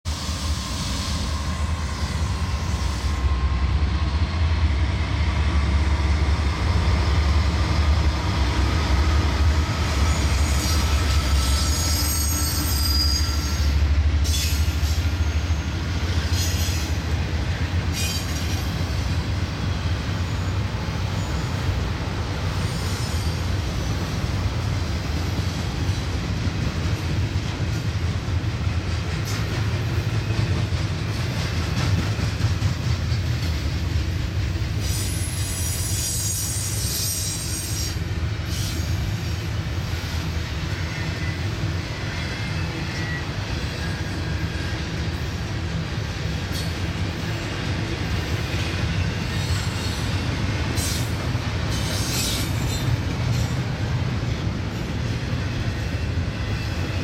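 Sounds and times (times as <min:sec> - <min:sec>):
freight train rumbling past: 0:00.0 - 0:57.0
train wheel squeal: 0:00.1 - 0:17.2, 0:17.9 - 0:26.4, 0:29.0 - 0:57.0.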